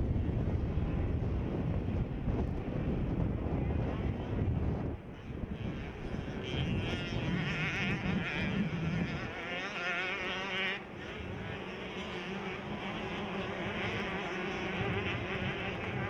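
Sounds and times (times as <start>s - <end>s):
motocross bikes racing: 0.0s - 16.0s.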